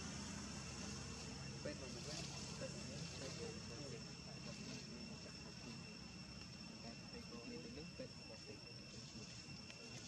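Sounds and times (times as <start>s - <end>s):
distant voices murmuring: 0.0s - 10.0s
high-pitched insect drone: 0.0s - 10.0s.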